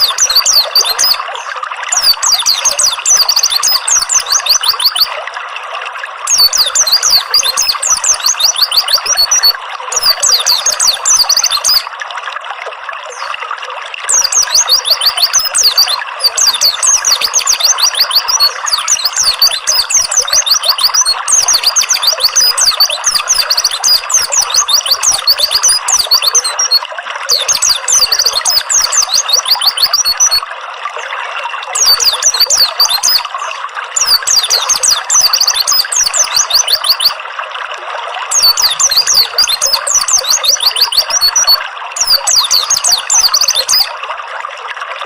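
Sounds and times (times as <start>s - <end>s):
songbird chirping rapidly: 0.0s - 5.2s, 6.3s - 11.9s, 14.1s - 30.4s, 31.8s - 37.2s, 38.3s - 43.9s
water trickling and splashing: 0.0s - 45.0s.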